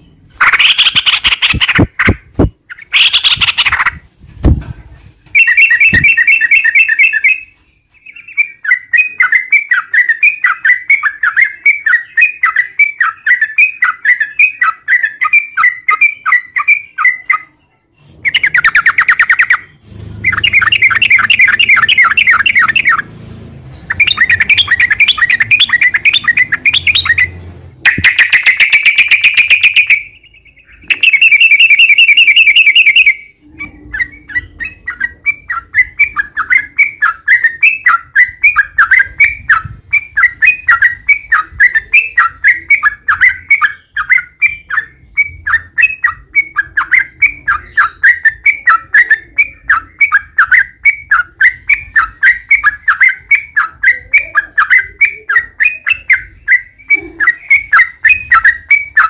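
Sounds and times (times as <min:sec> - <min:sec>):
bird singing rapid trills: 0:00.0 - 0:01.9, 0:05.4 - 0:17.6, 0:18.3 - 0:23.1, 0:23.8 - 0:59.0.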